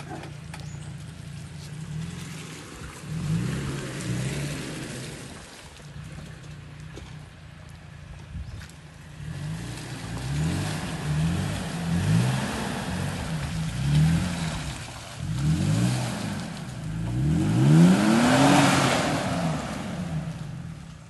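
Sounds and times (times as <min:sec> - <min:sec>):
off-road engine revving: 0:00.0 - 0:08.1, 0:08.9 - 0:21.0.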